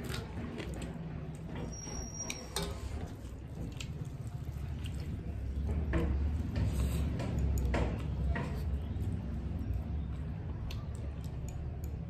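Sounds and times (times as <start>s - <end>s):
people chewing: 0.0s - 12.0s
wet squelching of hands mixing food: 0.0s - 12.0s.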